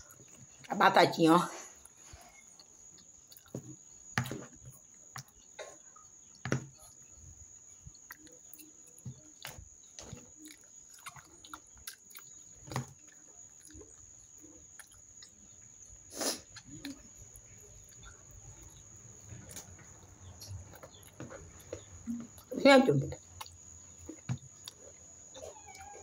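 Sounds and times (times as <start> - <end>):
chewing meat off a bone: 1.8 - 7.2, 7.8 - 26.0.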